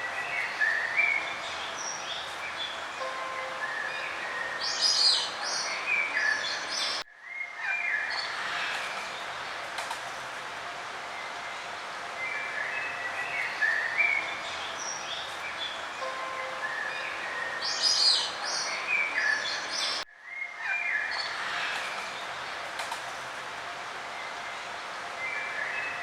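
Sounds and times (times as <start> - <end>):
songbirds chirping and singing: 0.0 - 9.6, 11.2 - 22.6
steady background hiss: 0.0 - 26.0.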